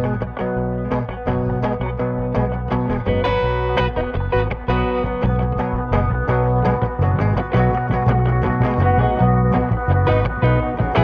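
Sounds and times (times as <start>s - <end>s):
music with guitar and bass: 0.0s - 11.0s.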